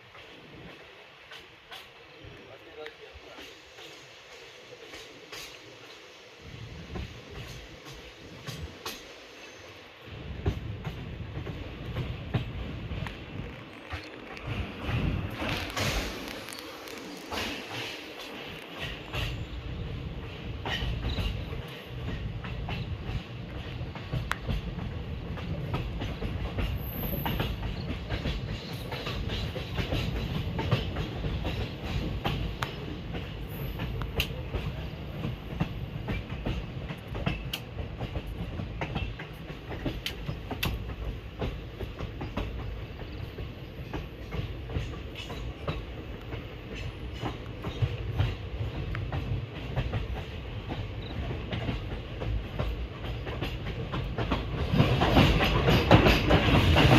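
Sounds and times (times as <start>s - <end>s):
train rumbling: 0.0s - 56.9s
wheels clacking over rail joints: 10.4s - 56.9s.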